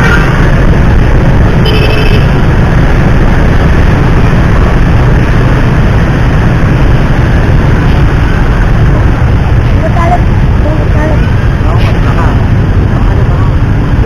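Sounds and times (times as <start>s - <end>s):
traffic engine and road rumble: 0.0s - 14.0s.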